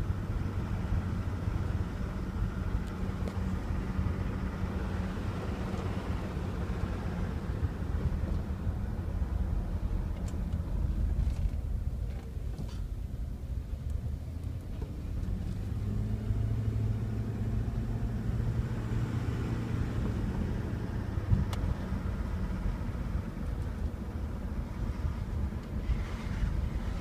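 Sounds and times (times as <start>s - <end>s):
car engine low rumble: 0.0s - 27.0s.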